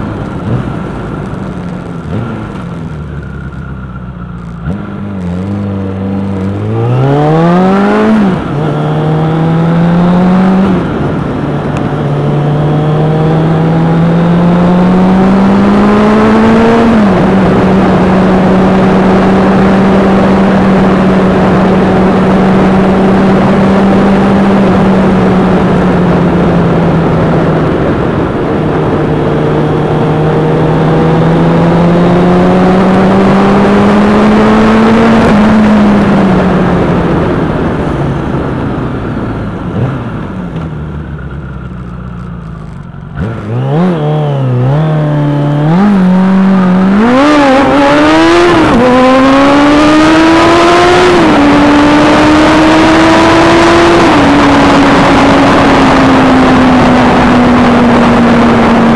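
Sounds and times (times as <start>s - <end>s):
vehicle engine accelerating: 0.0s - 58.9s
wind and road noise: 0.0s - 58.9s.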